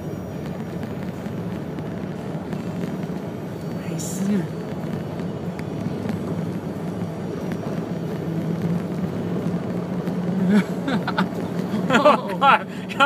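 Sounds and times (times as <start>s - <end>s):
truck engine and road noise: 0.0s - 13.0s
wind: 0.0s - 13.0s.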